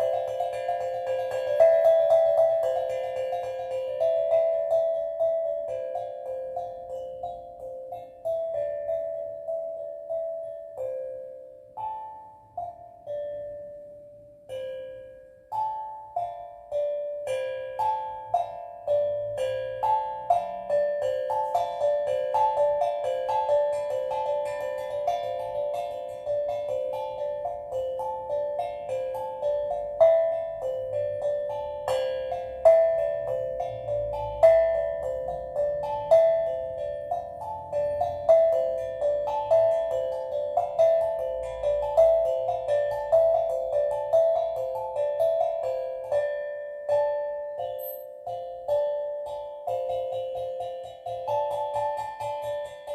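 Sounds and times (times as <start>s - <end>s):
steel drum melody: 0.0s - 52.9s.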